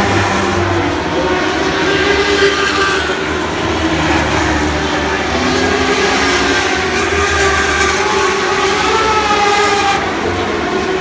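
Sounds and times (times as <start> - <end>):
motorcycle engines revving high: 0.0 - 11.0.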